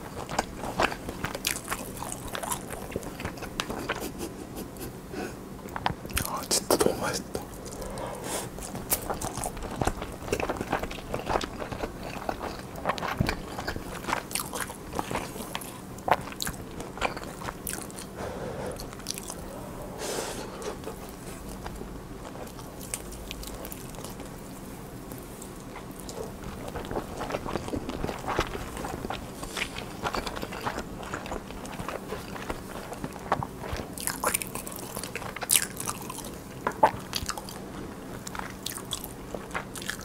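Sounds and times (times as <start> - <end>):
chewing food: 0.0 - 4.9, 5.6 - 40.0.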